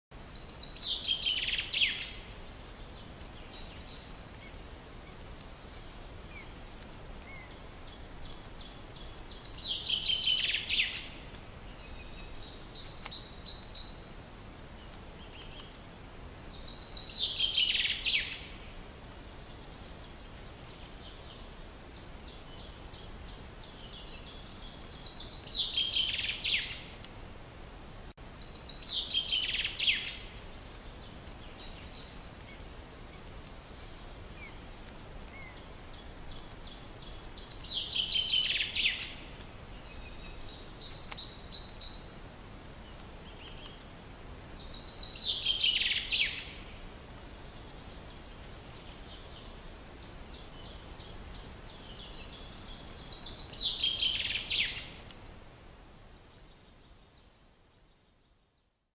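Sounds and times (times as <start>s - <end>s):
songbird singing: 0.1s - 27.1s, 27.8s - 58.9s
steady outdoor hiss: 0.1s - 58.9s.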